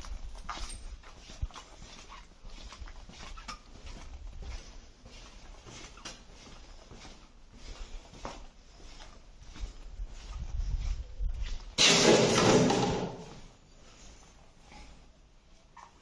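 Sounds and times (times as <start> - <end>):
footsteps scuffing on debris: 0.0 - 13.5
handheld camera rumble: 0.0 - 13.5.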